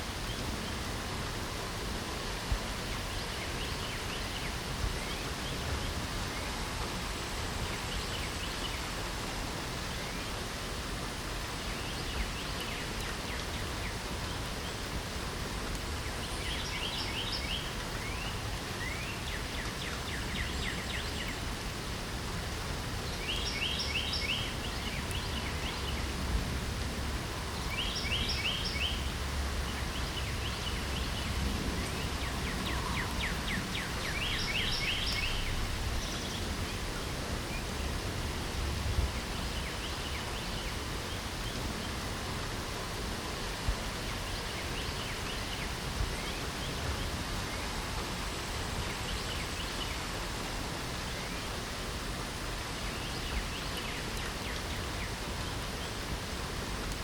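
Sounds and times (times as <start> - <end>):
light rain hissing: 0.0 - 57.0
songbird singing: 2.4 - 9.2, 11.4 - 21.7, 22.6 - 57.0.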